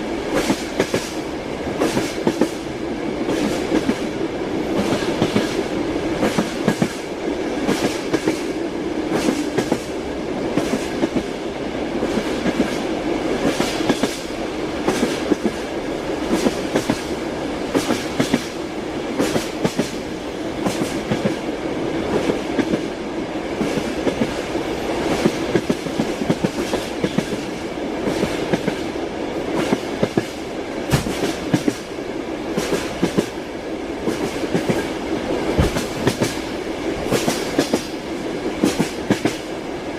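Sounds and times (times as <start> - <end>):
train wheels clattering on rails: 0.0 - 39.6.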